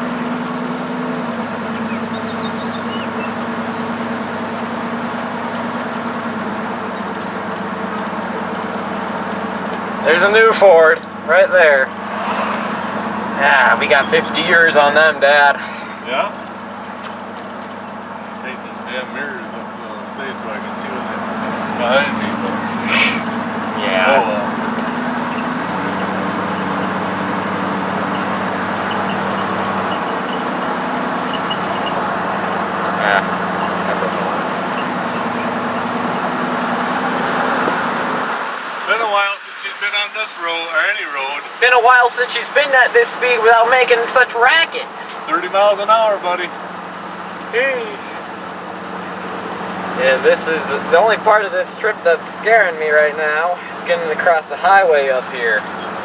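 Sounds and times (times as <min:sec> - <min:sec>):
truck engine running: 0:00.0 - 0:39.0, 0:41.2 - 0:56.0
road and tyre noise: 0:00.0 - 0:56.0.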